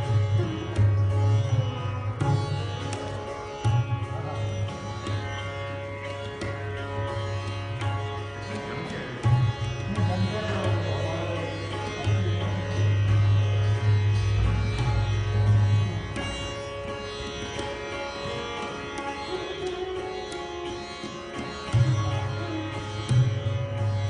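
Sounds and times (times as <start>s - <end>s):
ringing sitar: 0.0s - 24.0s.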